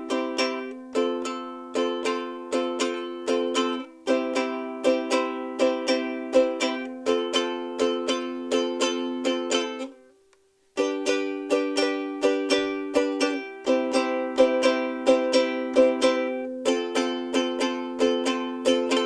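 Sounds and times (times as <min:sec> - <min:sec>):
ukulele strumming chords: 0:00.0 - 0:10.2, 0:10.8 - 0:19.0.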